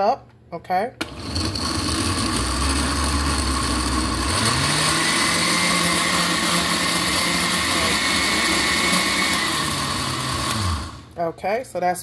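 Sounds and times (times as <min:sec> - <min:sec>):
blender blades chopping cucumber: 0:01.0 - 0:11.2
blender motor running: 0:01.0 - 0:11.2.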